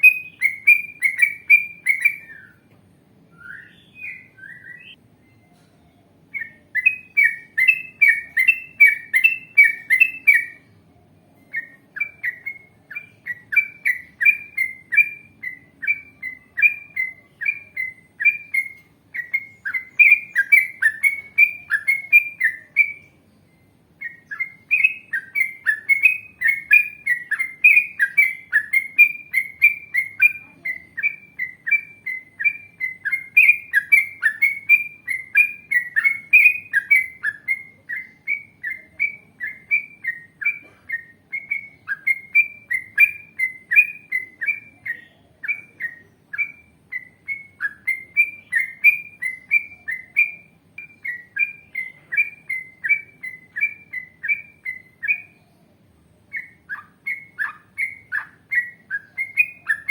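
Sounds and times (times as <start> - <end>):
bulbul chirping song: 0.0 - 59.9.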